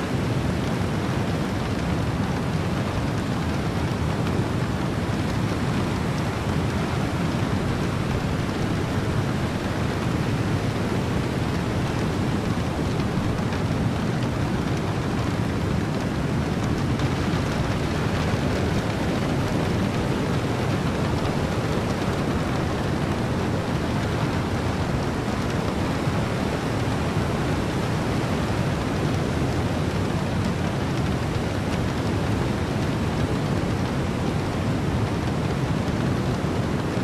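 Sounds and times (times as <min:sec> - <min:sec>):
heavy rain: 0:00.0 - 0:37.0
ocean surf: 0:00.0 - 0:37.0
wind: 0:00.0 - 0:37.0.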